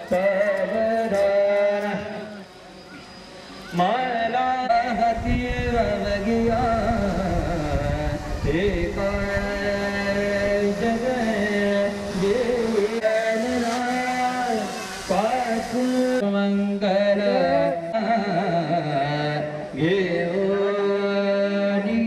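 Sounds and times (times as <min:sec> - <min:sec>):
steady drone: 0:00.0 - 0:22.0
wavering chant-like melody: 0:00.0 - 0:22.0.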